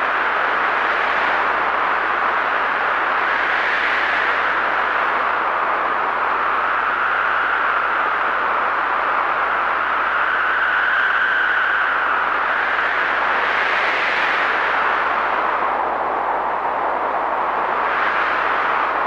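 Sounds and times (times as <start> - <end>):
howling wind: 0.0 - 19.0.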